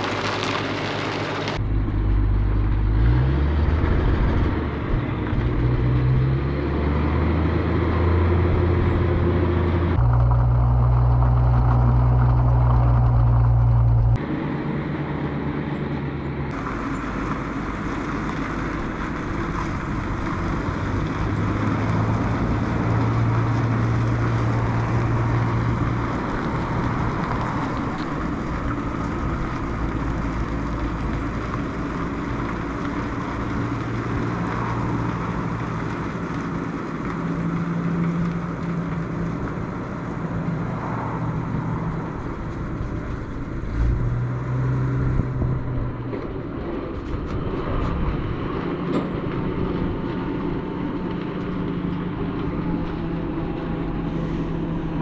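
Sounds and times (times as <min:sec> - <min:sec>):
vehicle engine driving on gravel: 0:00.0 - 0:55.0.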